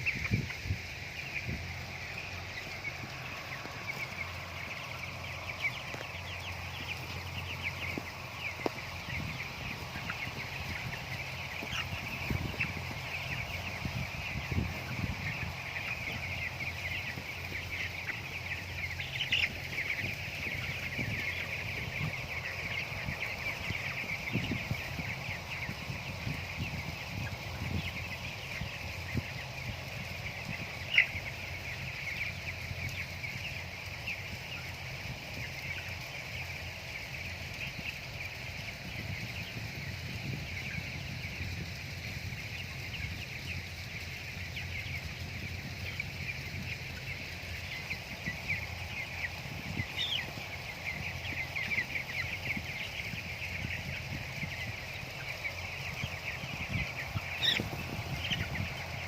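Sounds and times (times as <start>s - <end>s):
chickens cheeping: 0.0s - 59.0s.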